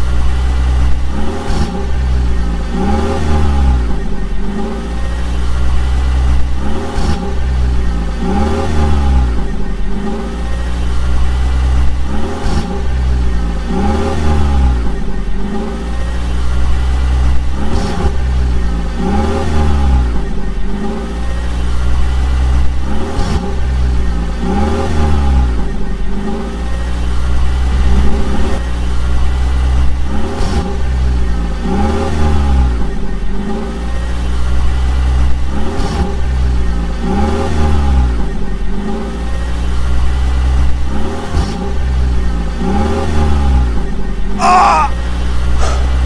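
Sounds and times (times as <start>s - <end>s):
vehicle engine revving: 0.0s - 46.0s.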